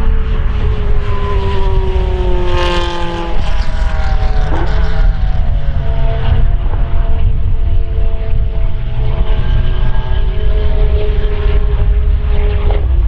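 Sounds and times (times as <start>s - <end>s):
racing car engine running hard: 0.0s - 13.0s.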